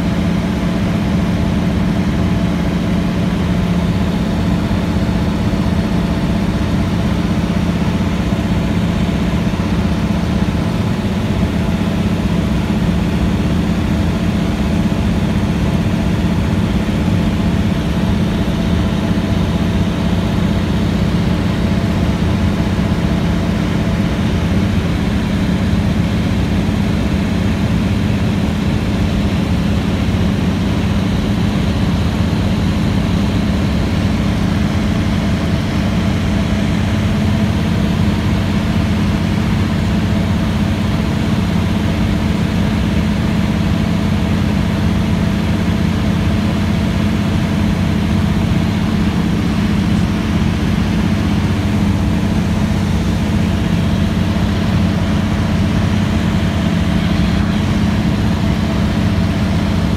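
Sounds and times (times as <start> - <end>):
plane engine and propeller drone: 0.0 - 59.9.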